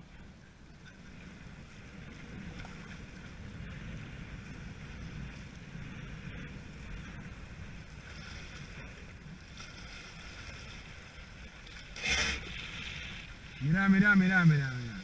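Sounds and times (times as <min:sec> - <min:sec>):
sea water moving: 0:00.0 - 0:15.0
wind noise on microphone: 0:00.0 - 0:15.0.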